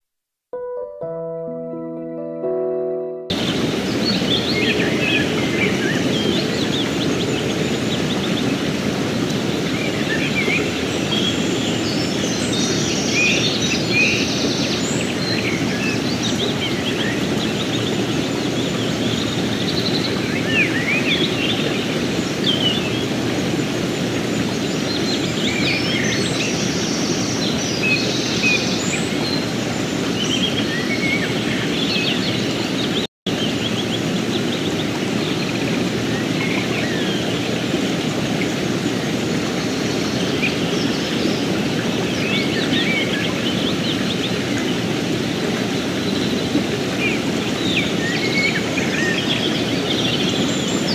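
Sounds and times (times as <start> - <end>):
river flowing: 3.3 - 50.9.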